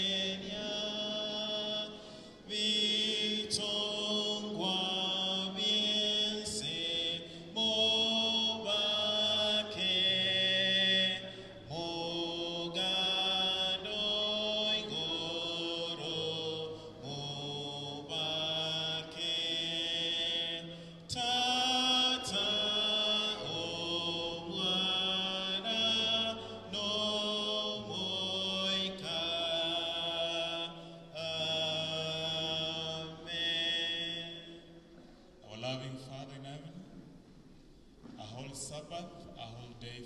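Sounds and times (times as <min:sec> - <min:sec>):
slow hymn in sustained chords: 0:00.0 - 0:36.9.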